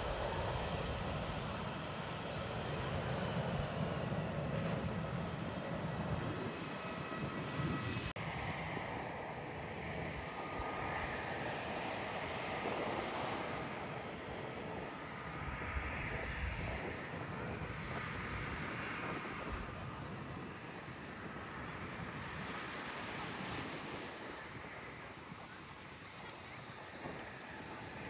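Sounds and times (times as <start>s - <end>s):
jet engines rumbling with whine: 0.0s - 28.0s.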